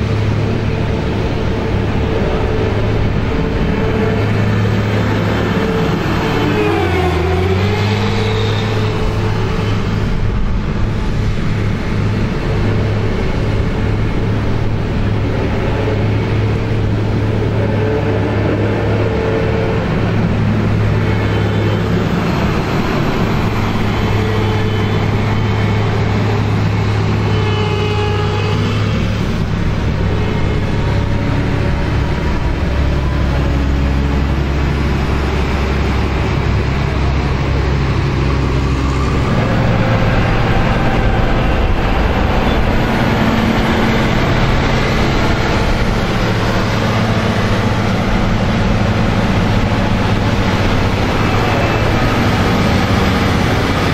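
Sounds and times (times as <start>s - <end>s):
combine harvester engines droning: 0.0s - 53.9s.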